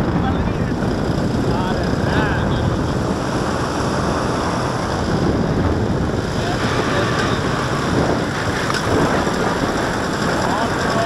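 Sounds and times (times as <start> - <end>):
paramotor engine and propeller: 0.0 - 11.0
wind noise on microphone: 0.0 - 11.0.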